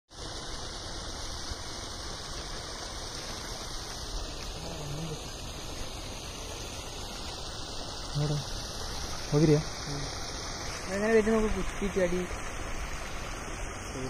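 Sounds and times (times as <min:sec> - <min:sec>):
steady outdoor hiss: 0:00.1 - 0:14.0.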